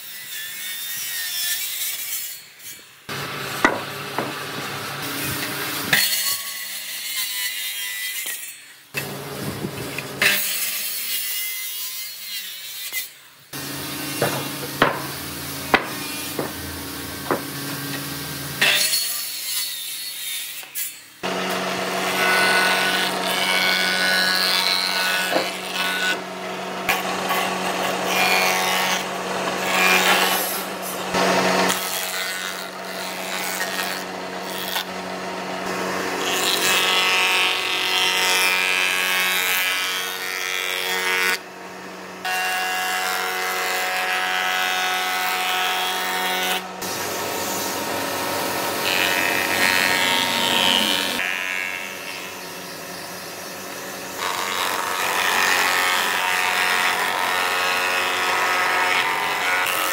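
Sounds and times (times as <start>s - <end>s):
wood planer motor hum and whine: 3.1s - 6.1s, 8.9s - 10.4s, 13.5s - 18.9s, 21.2s - 59.9s.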